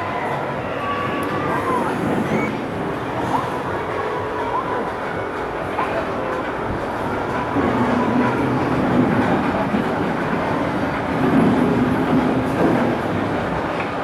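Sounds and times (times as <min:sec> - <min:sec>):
wheels rumbling on a track: 0:00.0 - 0:14.0.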